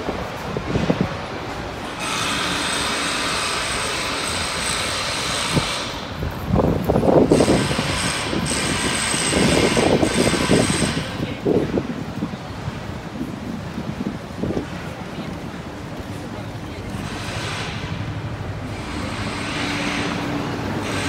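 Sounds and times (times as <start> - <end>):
traffic rushing: 0.0 - 21.0.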